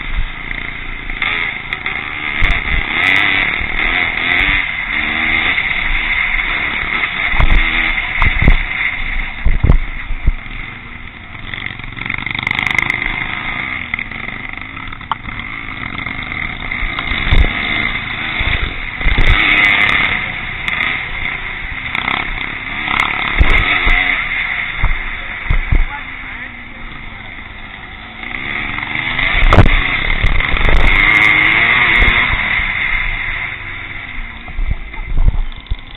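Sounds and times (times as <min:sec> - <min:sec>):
motorcycle engines racing: 0:00.0 - 0:35.9.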